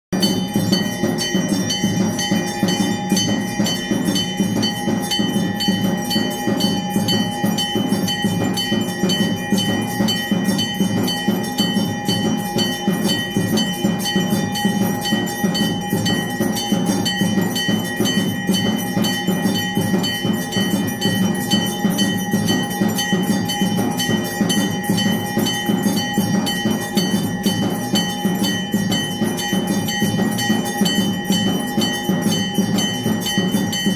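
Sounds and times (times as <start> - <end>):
bells ringing: 0.1 - 33.9
fast percussion: 0.1 - 33.9.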